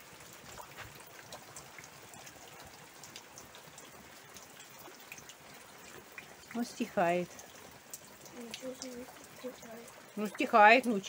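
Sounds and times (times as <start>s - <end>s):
rain hissing: 0.0s - 11.0s
raindrops tapping: 0.0s - 11.0s.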